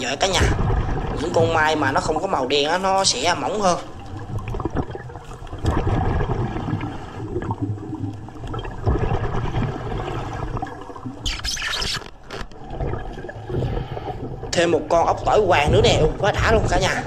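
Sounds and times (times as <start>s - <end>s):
exhaled bubbles surging: 0.0s - 17.0s
underwater air bubbling: 0.0s - 17.0s.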